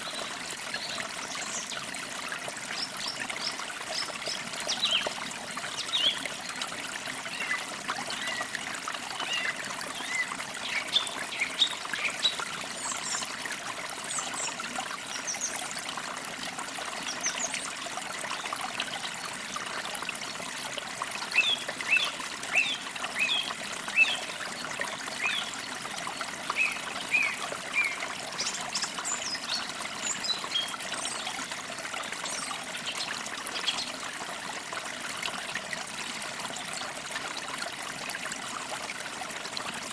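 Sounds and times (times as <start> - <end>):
trickling stream: 0.0 - 39.9.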